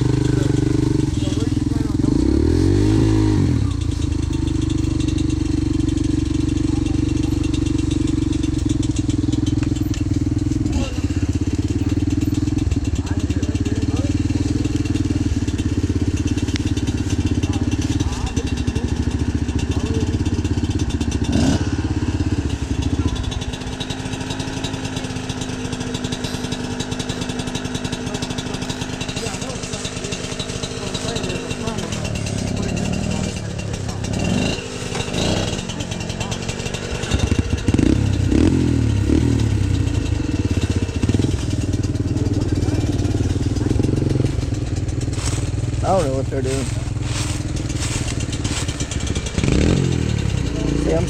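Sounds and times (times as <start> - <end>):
dirt bike engine revving: 0.0 - 51.0
rattling: 0.0 - 51.0.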